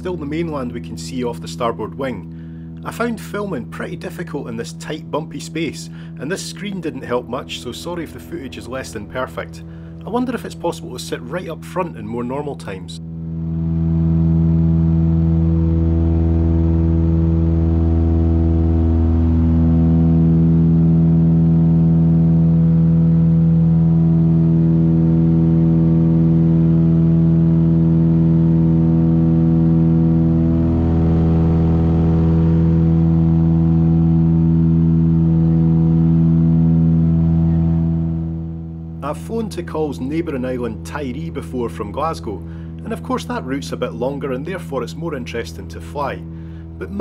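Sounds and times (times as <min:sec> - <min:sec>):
airplane cabin engine drone: 0:00.0 - 0:47.0.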